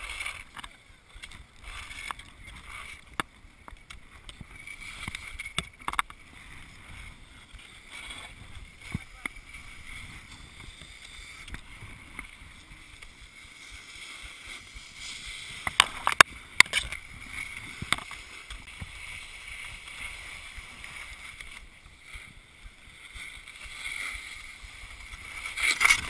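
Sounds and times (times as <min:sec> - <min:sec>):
skis scraping over snow: 0:00.0 - 0:26.0.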